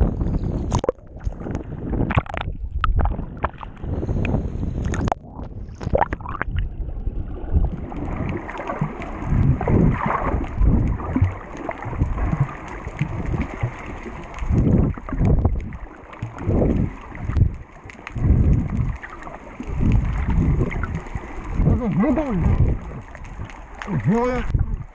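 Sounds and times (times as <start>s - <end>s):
underwater water rush: 0.6s - 24.9s.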